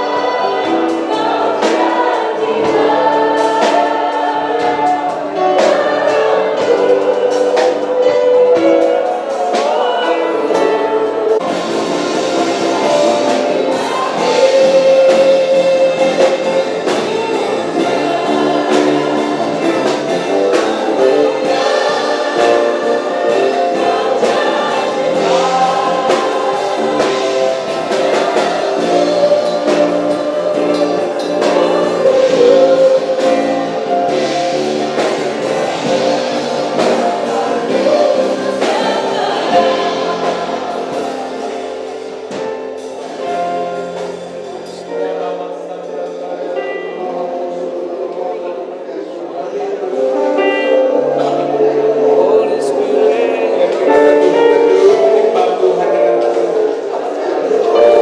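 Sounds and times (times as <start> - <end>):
band accompaniment: 0.0 - 58.0
choir singing: 0.0 - 58.0.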